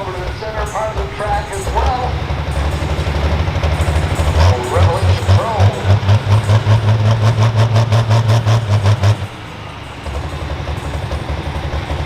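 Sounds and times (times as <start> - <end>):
tractor engine pulsing and rumbling: 0.0 - 12.0.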